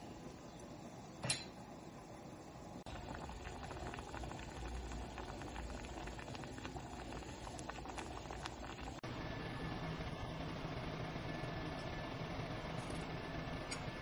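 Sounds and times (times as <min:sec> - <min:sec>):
soup bubbling in a pot: 0:00.0 - 0:14.0
steady low hum: 0:00.0 - 0:14.0.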